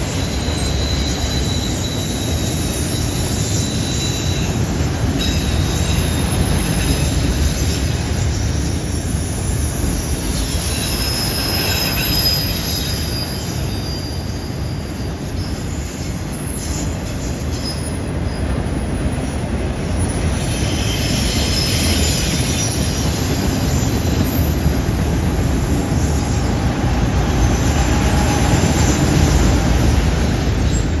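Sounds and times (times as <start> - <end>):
freight train rumbling past: 0.0 - 31.0
train wheels squealing: 0.0 - 31.0.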